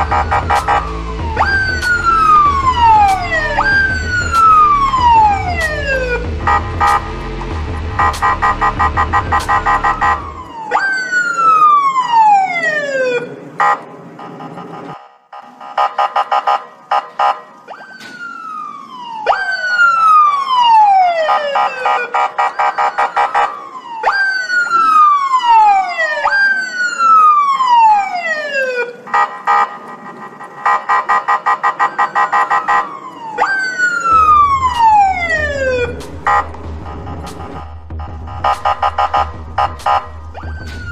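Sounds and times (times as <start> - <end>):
electronic police siren: 0.0 - 40.9.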